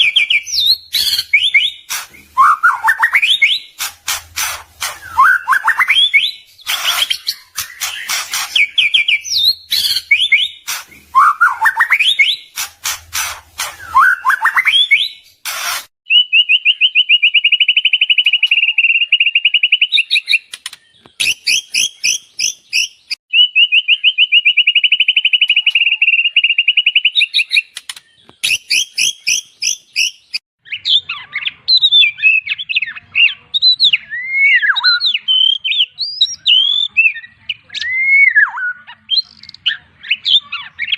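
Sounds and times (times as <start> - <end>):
songbird singing varied song: 0.0 - 15.4, 16.1 - 40.9.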